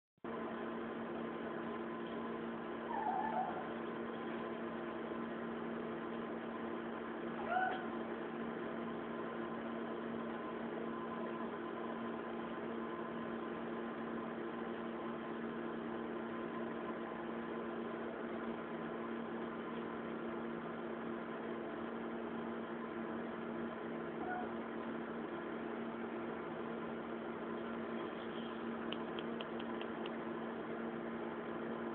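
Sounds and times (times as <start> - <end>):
steady machine hum: 0.2 - 31.9.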